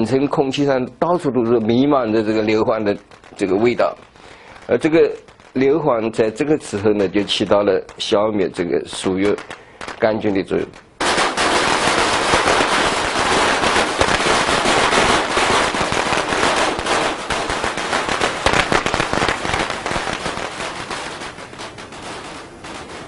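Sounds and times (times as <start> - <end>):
firecrackers crackling: 0.0 - 23.0.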